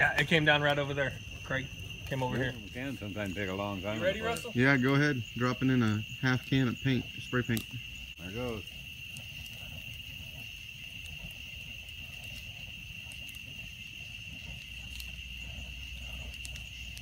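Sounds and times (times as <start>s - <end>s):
bonfire burning and crackling: 0.0s - 17.0s
night insects chorus: 0.0s - 17.0s.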